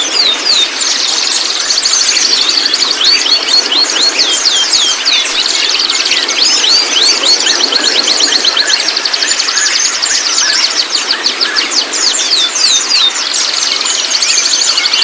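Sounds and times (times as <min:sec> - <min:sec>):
bird chattering and trilling: 0:00.0 - 0:15.0.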